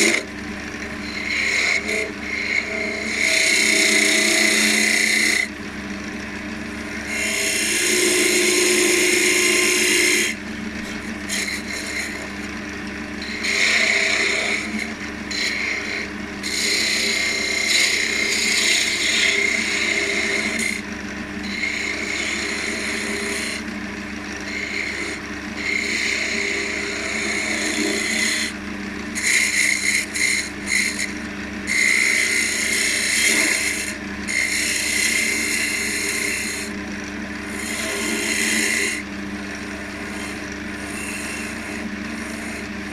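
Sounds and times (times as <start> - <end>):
gouge scraping spinning wood: 0.0 - 42.9
wood lathe running: 0.0 - 42.9.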